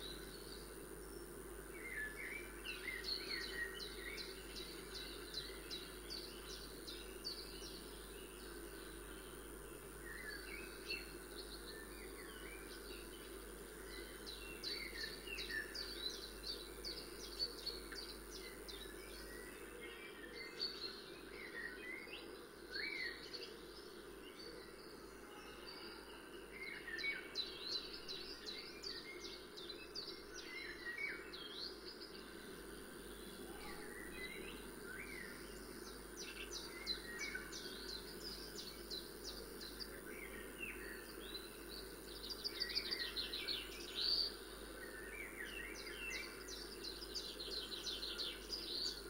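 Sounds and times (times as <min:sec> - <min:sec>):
faint high whine: 0:00.0 - 0:49.0.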